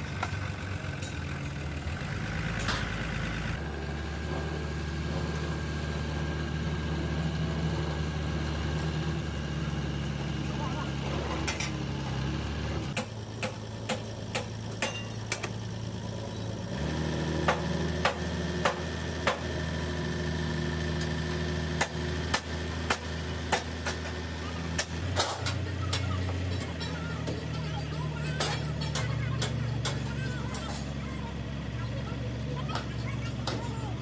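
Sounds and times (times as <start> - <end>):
crane engine running: 0.0 - 34.0.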